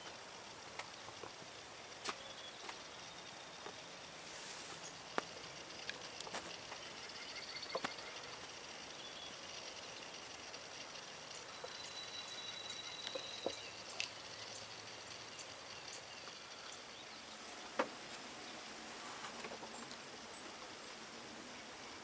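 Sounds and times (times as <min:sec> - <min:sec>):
faint small birds calling: 0:00.0 - 0:22.0.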